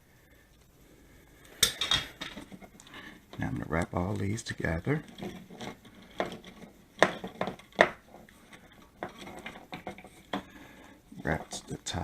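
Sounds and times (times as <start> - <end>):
wires and wire nuts clicking: 1.4 - 12.0.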